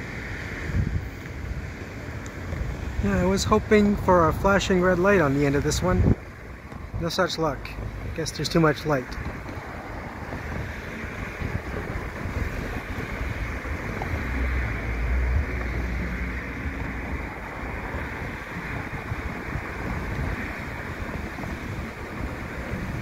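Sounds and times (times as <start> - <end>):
freight train rumbling: 0.0 - 23.0
wind buffeting microphone: 0.0 - 23.0.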